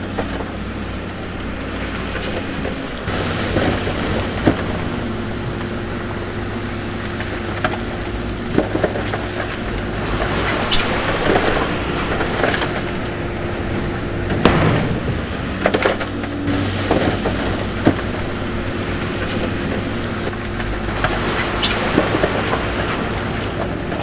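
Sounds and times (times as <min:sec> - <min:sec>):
diesel construction machinery running: 0:00.0 - 0:24.0
knocks of stone and rock: 0:00.0 - 0:24.0.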